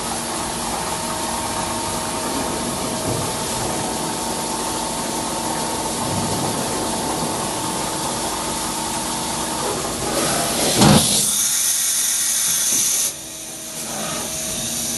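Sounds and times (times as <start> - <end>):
machine whirring with low hum: 0.0 - 14.9.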